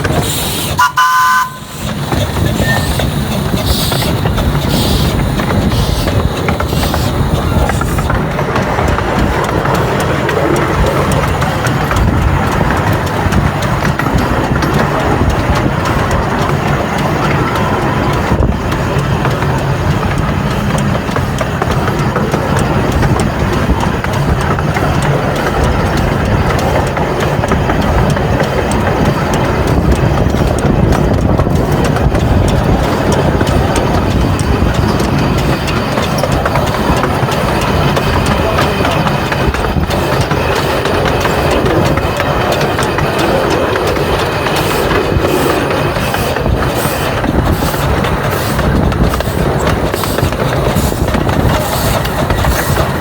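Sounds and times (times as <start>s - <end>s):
train rumbling on rails: 0.0s - 53.0s
train wheels clicking: 0.0s - 53.0s.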